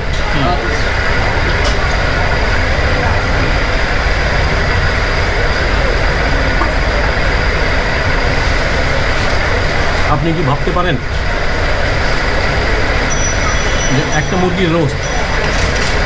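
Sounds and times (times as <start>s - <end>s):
restaurant background din: 0.0s - 16.0s
thin steady tones: 0.0s - 16.0s.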